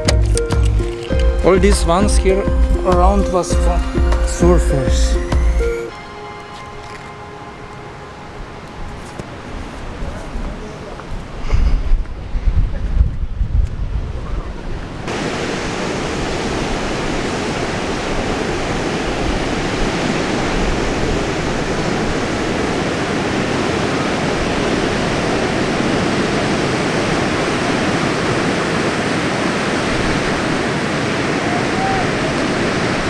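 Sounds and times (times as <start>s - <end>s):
ocean surf breaking: 0.0s - 12.6s, 14.0s - 33.0s.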